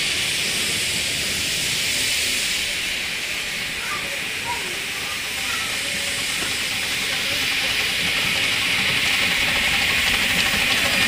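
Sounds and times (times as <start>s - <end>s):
steam hissing: 0.0s - 11.0s
train rumbling on track: 0.0s - 11.0s.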